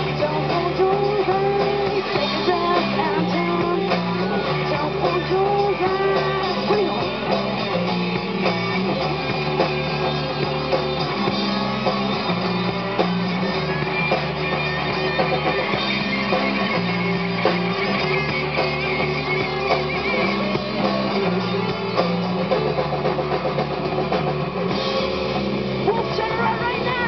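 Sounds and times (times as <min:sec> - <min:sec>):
bass guitar: 0:00.0 - 0:27.0
drum kit: 0:00.0 - 0:27.0
electric guitars strumming: 0:00.0 - 0:27.0.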